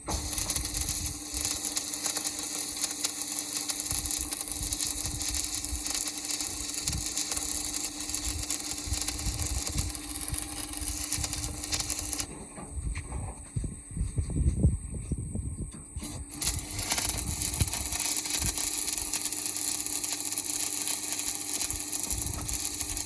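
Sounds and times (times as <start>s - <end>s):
arc welding crackling hiss: 0.0s - 12.3s, 16.0s - 23.0s
electrical hum: 0.0s - 23.0s.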